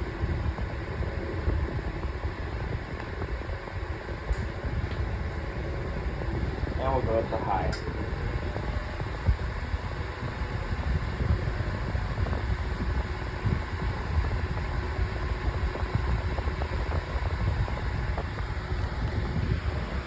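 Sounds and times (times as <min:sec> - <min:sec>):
table fan whirring: 0:00.0 - 0:20.0
wind buffeting microphone: 0:00.0 - 0:20.0.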